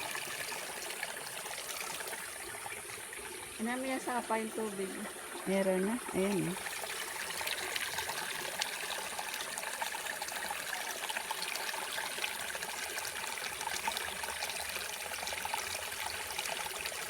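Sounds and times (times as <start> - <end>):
small water splashes: 0.0 - 17.0
water trickling and babbling: 0.0 - 17.0.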